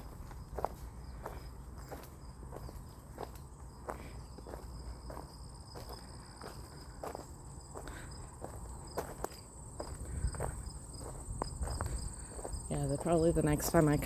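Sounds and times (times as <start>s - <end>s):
footsteps on a trail: 0.0s - 14.0s
high continuous insect trill: 0.0s - 14.0s
lower pulsing insect call: 0.0s - 14.0s.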